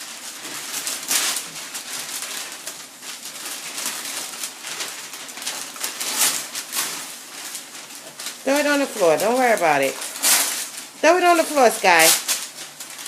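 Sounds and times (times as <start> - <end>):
wrapping paper tearing: 0.0 - 13.0.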